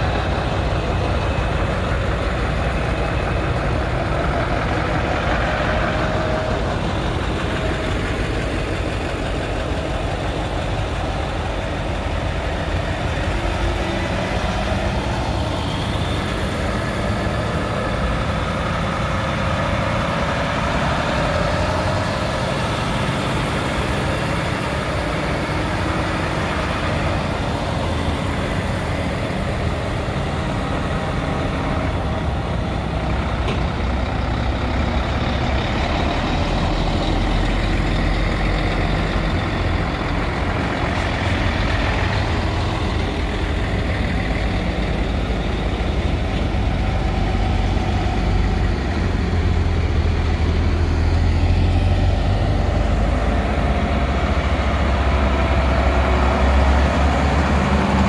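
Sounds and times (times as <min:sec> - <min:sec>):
diesel lorry engine running: 0:00.0 - 0:58.0.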